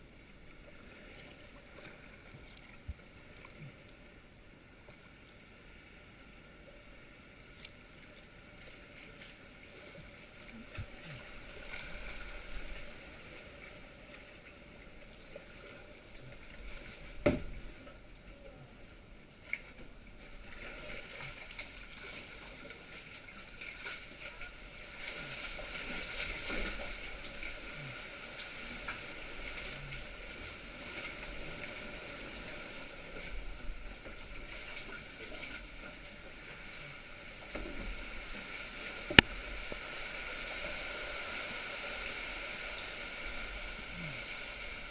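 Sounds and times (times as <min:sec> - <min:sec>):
water sloshing against hull: 0:00.0 - 0:44.9
paddle strokes: 0:07.4 - 0:44.9.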